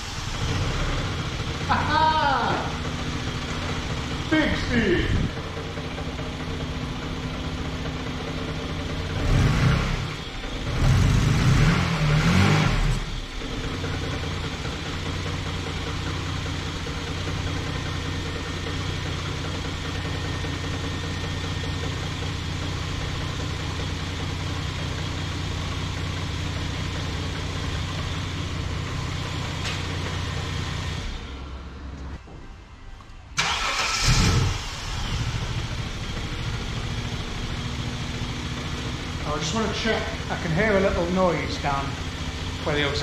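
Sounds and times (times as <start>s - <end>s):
car engine revving and idling: 0.0s - 32.3s, 33.4s - 43.0s.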